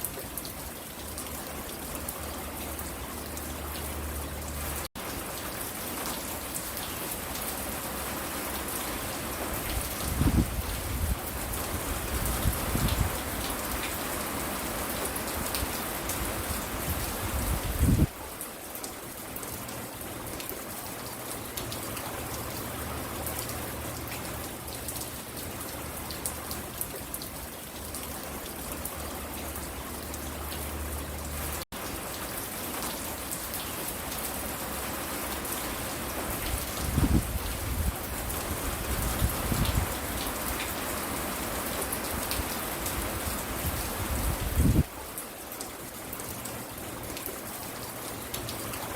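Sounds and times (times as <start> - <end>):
rain spattering on porch: 0.0 - 48.9.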